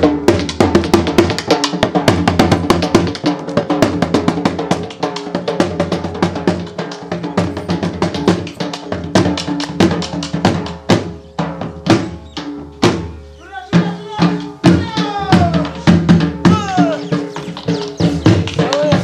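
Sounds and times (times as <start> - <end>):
fast driving drum beat: 0.0 - 19.0.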